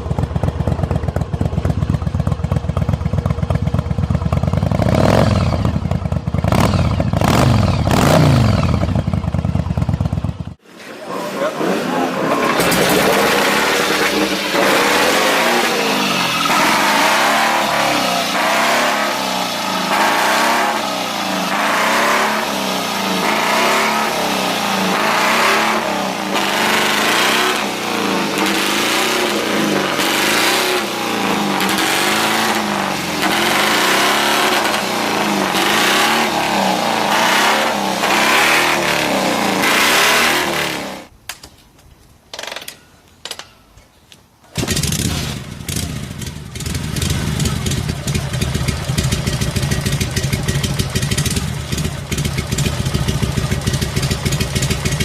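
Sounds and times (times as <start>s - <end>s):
motorcycle engine revving: 0.0s - 41.1s, 44.6s - 55.0s.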